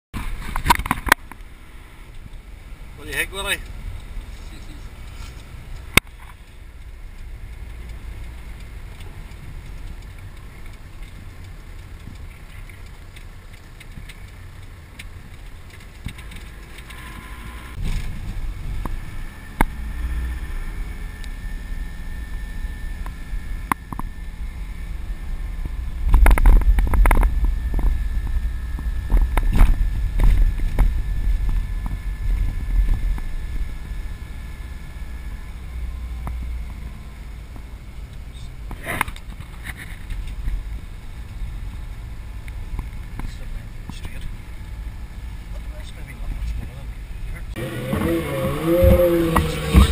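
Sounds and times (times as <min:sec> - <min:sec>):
van engine and tyre noise: 0:00.1 - 0:49.9.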